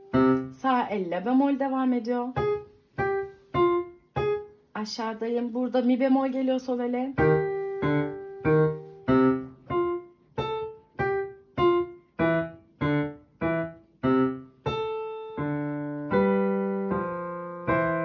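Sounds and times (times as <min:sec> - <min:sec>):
digital piano notes: 0:00.0 - 0:18.0.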